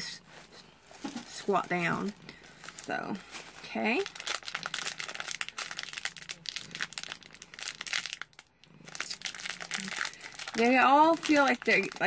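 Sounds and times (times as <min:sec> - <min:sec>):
foil bag crinkling: 0:00.3 - 0:12.0.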